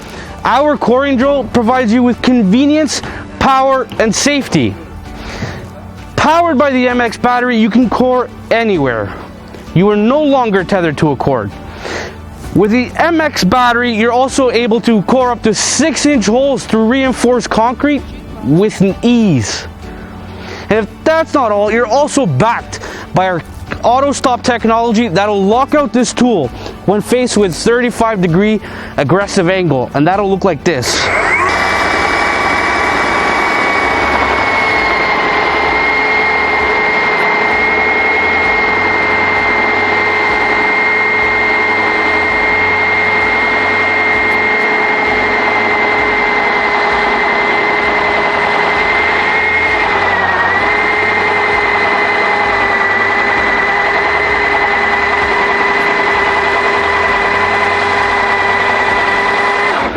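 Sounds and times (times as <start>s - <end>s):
gritty drilling noise: 0.0s - 25.7s, 30.8s - 59.9s
core drill motor whine: 0.0s - 28.7s, 30.8s - 59.9s.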